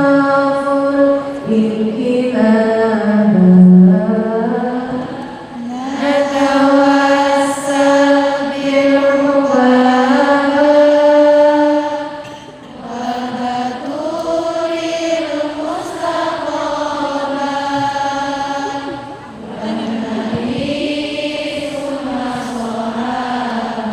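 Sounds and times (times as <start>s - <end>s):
woman chanting: 0.0s - 23.9s.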